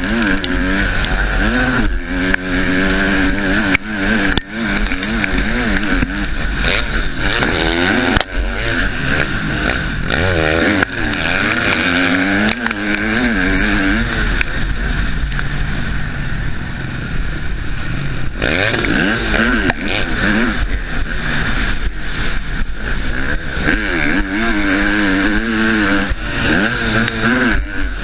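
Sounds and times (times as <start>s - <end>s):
motocross bike engine revving: 0.0s - 28.0s.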